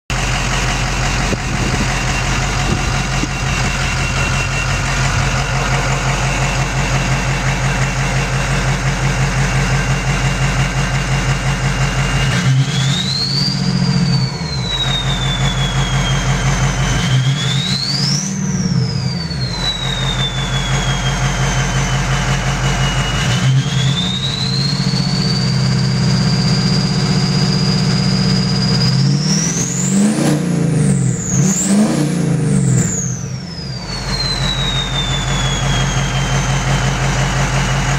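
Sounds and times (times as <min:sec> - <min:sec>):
diesel engine idling and revving: 0:00.1 - 0:37.9
turbo whistle: 0:01.5 - 0:08.5, 0:11.8 - 0:37.9.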